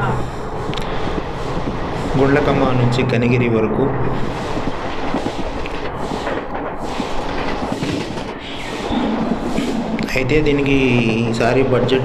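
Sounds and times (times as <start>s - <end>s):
train wheels rumbling and rattling: 0.0s - 12.0s.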